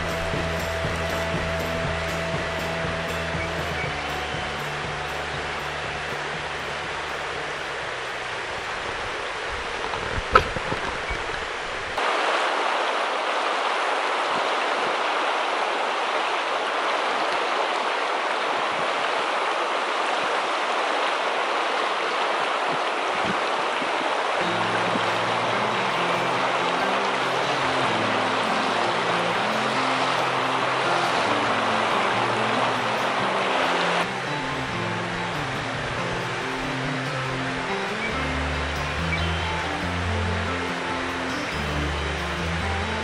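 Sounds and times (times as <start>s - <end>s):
sharp water splash: 0.0s - 42.2s
river flowing over cobbles: 0.0s - 43.0s.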